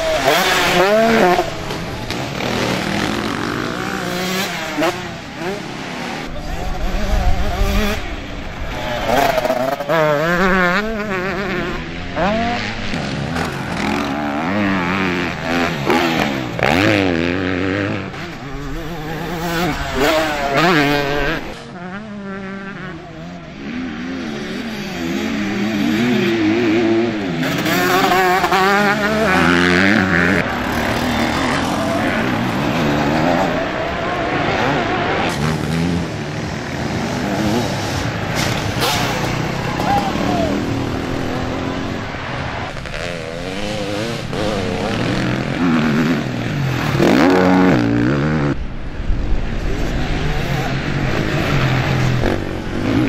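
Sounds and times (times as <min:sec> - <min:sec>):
motocross bike engines revving: 0:00.0 - 0:53.0.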